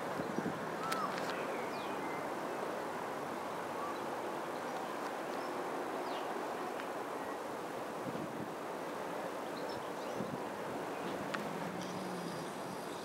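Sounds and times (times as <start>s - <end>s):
roadside background noise: 0.0s - 13.0s.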